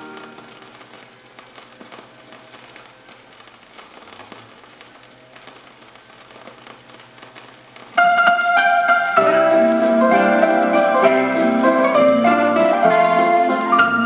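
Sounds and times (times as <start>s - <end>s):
record surface hiss: 0.0s - 14.0s
vinyl crackles and ticks: 0.0s - 14.0s.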